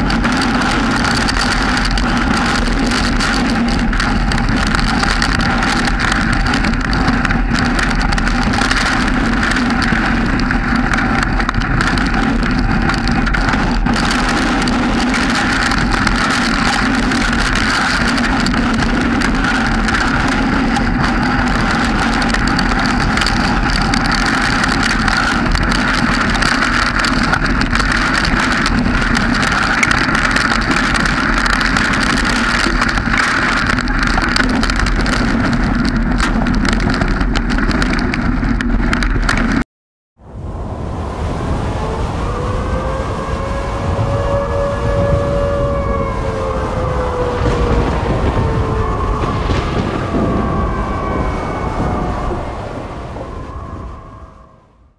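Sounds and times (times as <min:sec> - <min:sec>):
rain on camera: 0:00.0 - 0:39.6, 0:40.2 - 0:54.8
vehicle noise: 0:00.0 - 0:39.6, 0:40.2 - 0:54.9
wind on camera: 0:00.0 - 0:39.6, 0:40.2 - 0:54.9.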